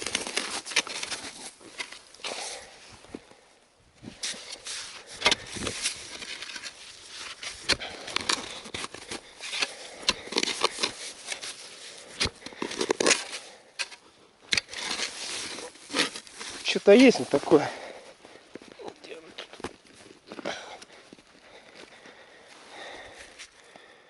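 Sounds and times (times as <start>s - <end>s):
digging in snowy soil: 0.0s - 24.0s.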